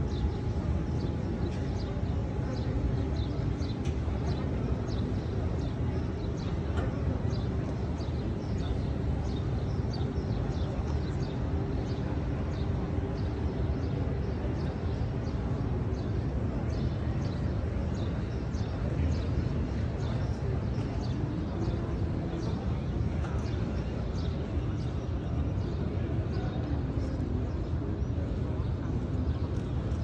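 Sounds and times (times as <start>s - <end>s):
low crowd rumble: 0.0s - 30.0s
murmur of voices: 0.0s - 30.0s.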